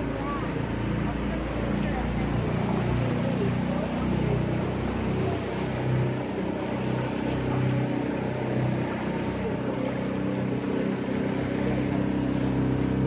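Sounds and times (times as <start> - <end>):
boat engine drone: 0.0 - 13.0
water and wind rushing: 0.0 - 13.0.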